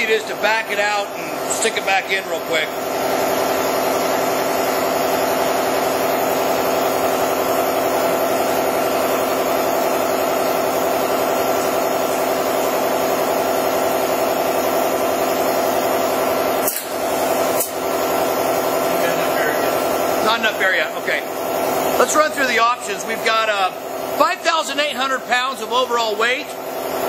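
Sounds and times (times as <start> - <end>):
air compressor pulsing: 0.0 - 27.0.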